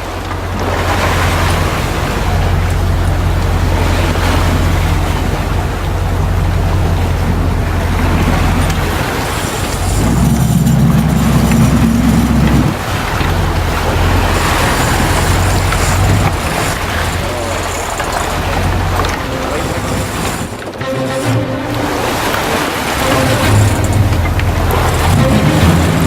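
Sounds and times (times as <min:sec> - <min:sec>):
boat engine running: 0:00.0 - 0:26.0
water: 0:00.0 - 0:26.0
wind: 0:00.0 - 0:26.0.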